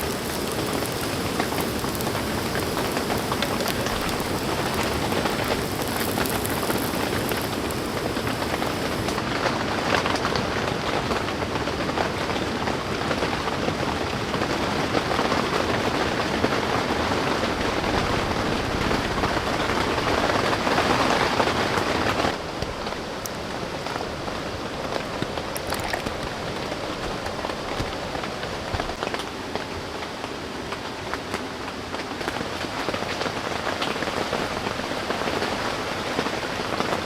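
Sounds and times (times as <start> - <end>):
heavy rain falling: 0.0 - 30.2, 31.4 - 37.0.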